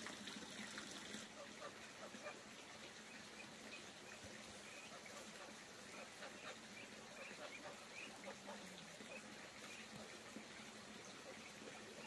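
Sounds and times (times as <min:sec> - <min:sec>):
ducks calling faintly: 0:01.2 - 0:12.0.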